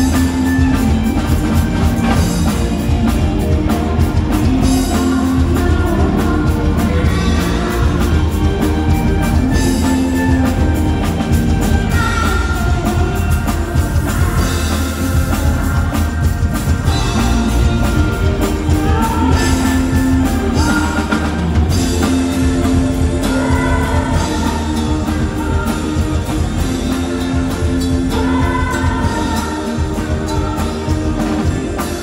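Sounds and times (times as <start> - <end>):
live rock band playing: 0.0 - 32.0
person singing: 0.0 - 32.0.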